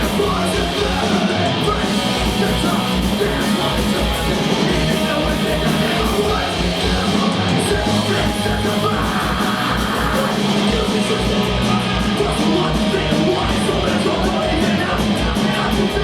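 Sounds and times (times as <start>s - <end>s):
fast drum beat: 0.0s - 16.0s
punk rock band playing: 0.0s - 16.0s.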